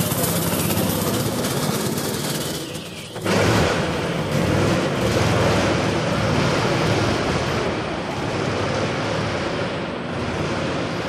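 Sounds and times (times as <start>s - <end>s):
go-kart engines running: 0.0s - 11.0s
loud rushing noise: 0.0s - 11.0s.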